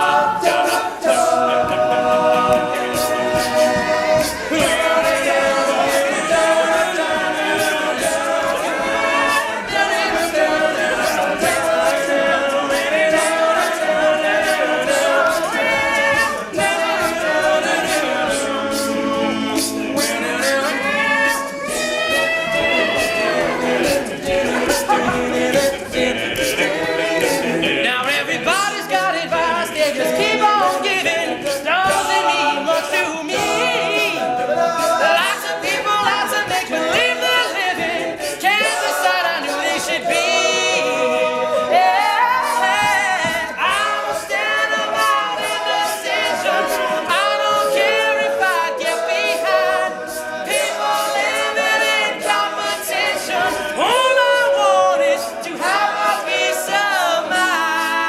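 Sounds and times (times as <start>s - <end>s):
male a cappella group singing: 0.0s - 58.0s.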